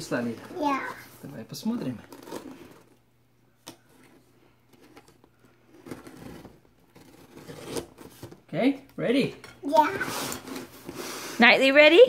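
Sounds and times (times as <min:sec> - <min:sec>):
tape and cardboard rustling: 0:00.0 - 0:08.5, 0:09.7 - 0:11.4.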